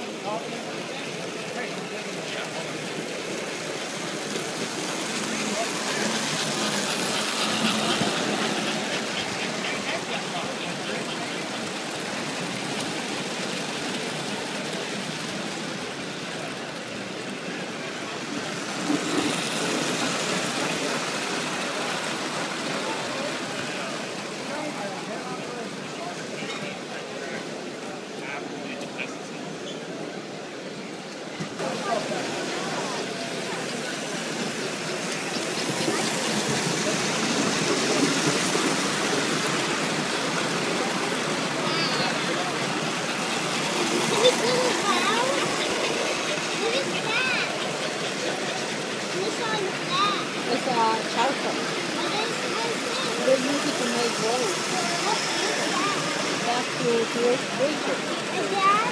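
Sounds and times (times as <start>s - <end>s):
model train wheels rumbling on rail: 0.0s - 58.9s.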